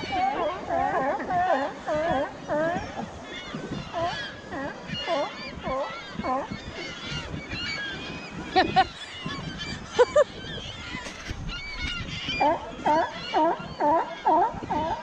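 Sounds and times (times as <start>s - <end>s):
sea lions barking: 0.0s - 10.6s, 12.0s - 15.0s
gulls calling: 0.0s - 15.0s.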